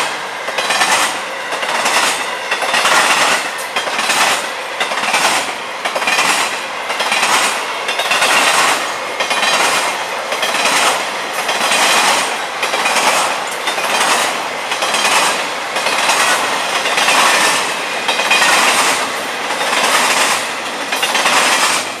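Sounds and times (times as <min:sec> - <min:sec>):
freight train wheels clacking: 0:00.0 - 0:22.0.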